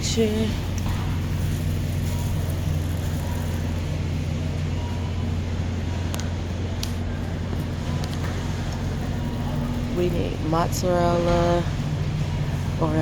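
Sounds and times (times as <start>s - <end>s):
refrigerator electrical hum: 0.0s - 13.0s.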